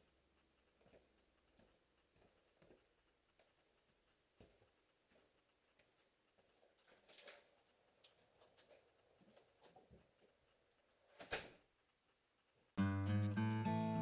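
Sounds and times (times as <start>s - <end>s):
soft rustle: 0.0s - 12.8s
faint scattered clicks: 0.0s - 13.4s.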